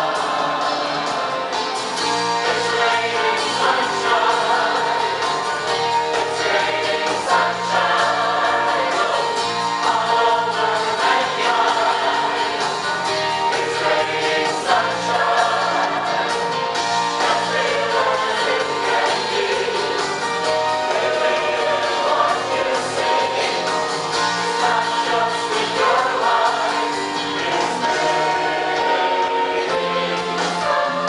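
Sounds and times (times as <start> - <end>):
mixed choir singing: 0.0 - 31.0.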